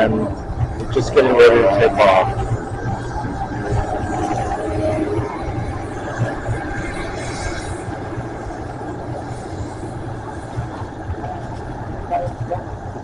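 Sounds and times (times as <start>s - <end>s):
helicopter rotor wash: 0.0s - 13.0s
helicopter turbine whine: 0.0s - 13.0s.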